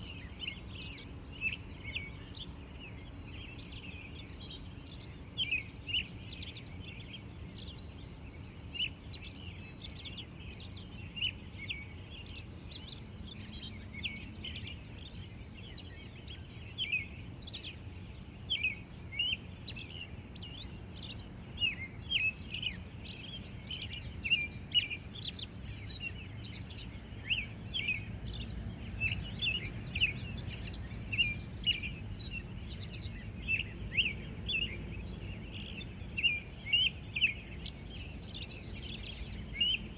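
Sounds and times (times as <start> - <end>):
birds chirping: 0.0 - 39.9
low background rumble: 0.0 - 39.9.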